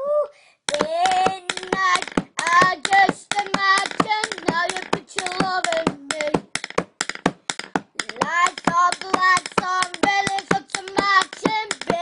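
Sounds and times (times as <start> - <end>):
boy singing: 0.0 - 6.6, 7.9 - 12.0
pencil tapping: 0.7 - 12.0.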